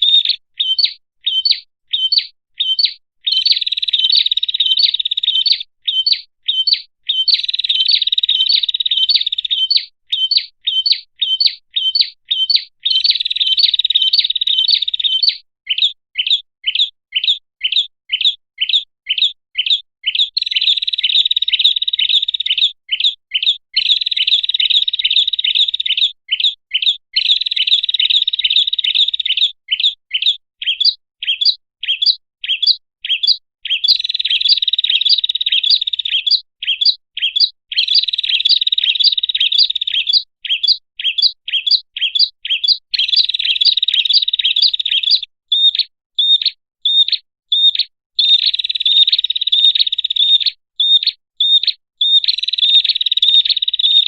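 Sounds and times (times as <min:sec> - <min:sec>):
bird chattering calls: 0:00.0 - 0:54.0.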